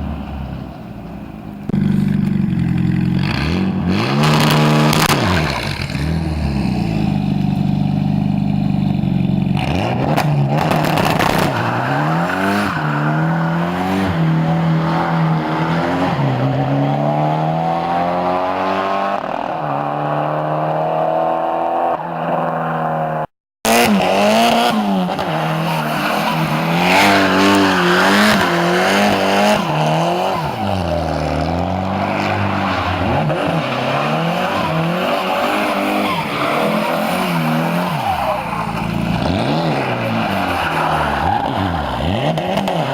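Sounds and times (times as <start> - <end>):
car engine accelerating hard: 1.5 - 42.9.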